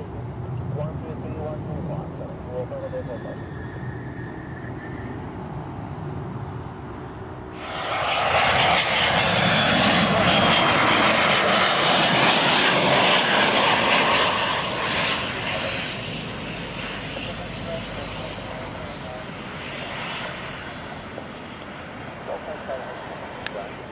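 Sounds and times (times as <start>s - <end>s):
aircraft engine rush: 0.0s - 23.9s.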